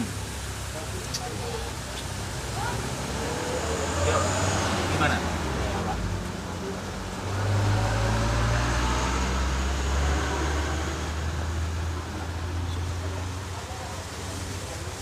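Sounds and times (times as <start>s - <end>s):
vehicle engine rumble passing: 0.0s - 15.0s.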